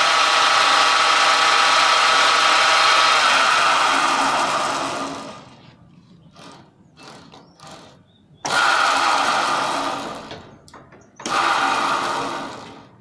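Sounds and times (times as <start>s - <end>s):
drilling rig electric motor: 0.0s - 10.5s, 11.2s - 13.0s.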